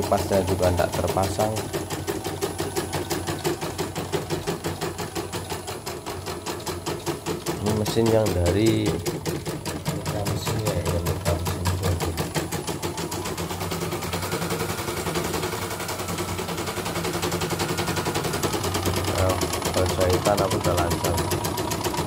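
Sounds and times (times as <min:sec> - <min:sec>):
embroidery machine needle clatter: 0:00.0 - 0:22.0
low motor hum: 0:00.0 - 0:22.0.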